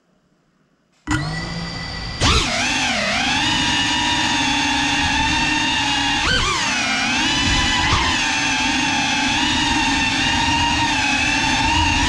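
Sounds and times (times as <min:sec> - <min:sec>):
drone motors whining: 0:01.1 - 0:12.0.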